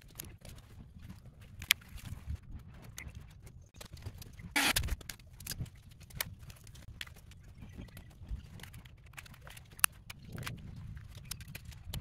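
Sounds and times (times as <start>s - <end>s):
cables clicking and knocking: 0.0s - 12.0s.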